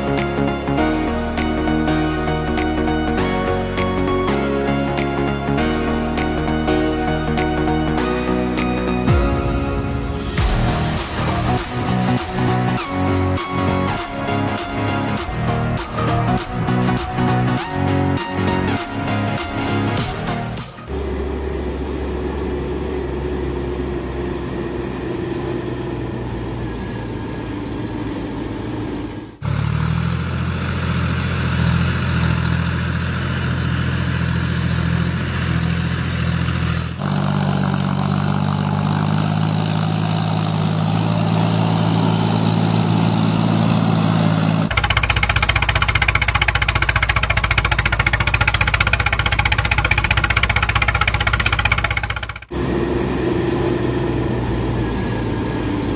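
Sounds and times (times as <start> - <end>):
engine humming: 0.0 - 55.9.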